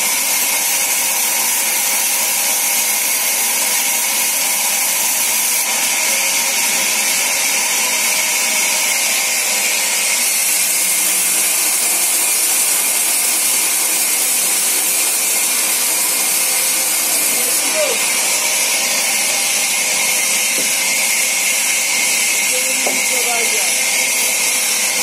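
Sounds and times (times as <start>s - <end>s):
band saw ripping through log: 0.0s - 25.0s.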